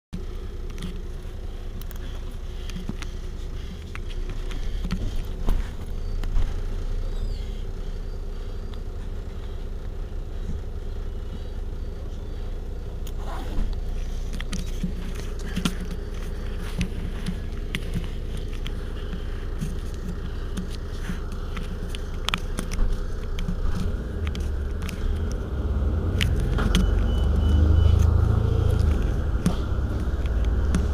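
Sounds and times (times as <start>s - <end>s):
bus engine idling: 0.2s - 30.9s.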